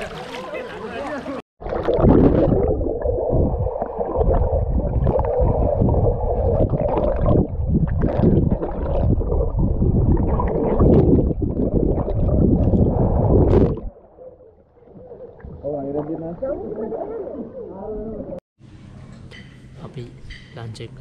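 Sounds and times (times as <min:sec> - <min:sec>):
pool water splashing: 0:00.0 - 0:18.4.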